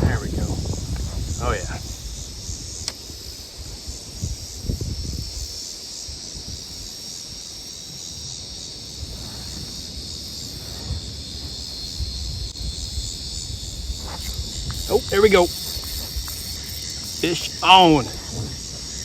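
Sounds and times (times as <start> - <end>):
high insect chorus: 0.0 - 19.0.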